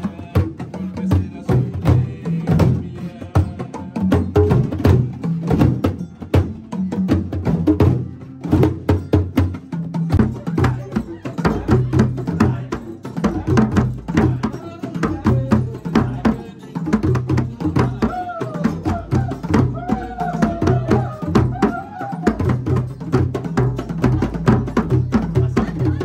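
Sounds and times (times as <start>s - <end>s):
person singing: 0.0s - 5.5s, 10.2s - 26.0s
djembe drums playing: 0.0s - 26.0s.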